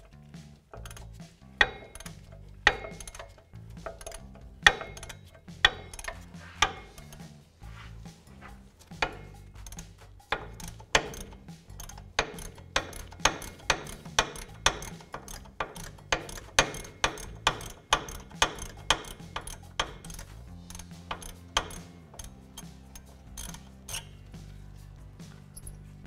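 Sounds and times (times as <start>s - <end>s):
hand ratchet clicking: 0.0s - 24.6s, 25.2s - 26.0s.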